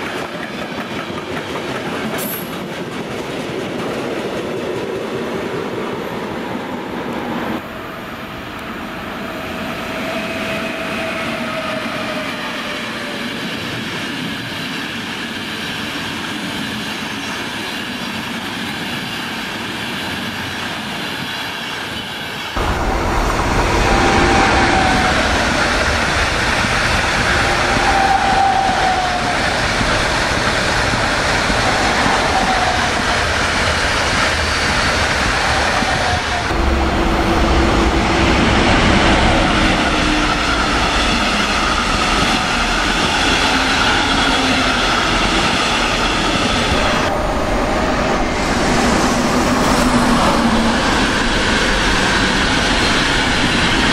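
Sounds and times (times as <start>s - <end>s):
train wheels rolling on rails: 0.0s - 53.9s.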